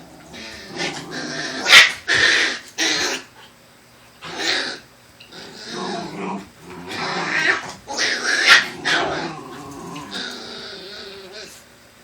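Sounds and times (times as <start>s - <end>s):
dogs growling: 0.0s - 3.5s, 4.2s - 11.6s.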